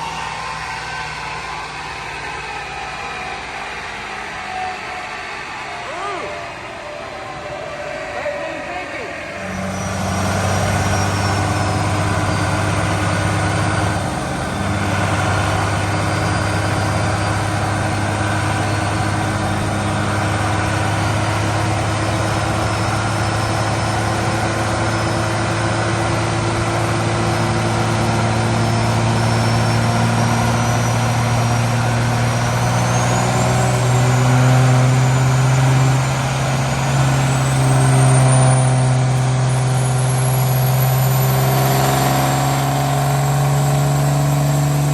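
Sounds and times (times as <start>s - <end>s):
truck engine running: 0.0s - 44.9s.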